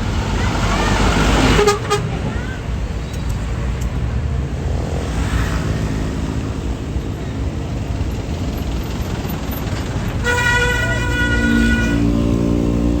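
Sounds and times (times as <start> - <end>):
bus engine rumbling: 0.0 - 13.0
street noise: 0.0 - 13.0.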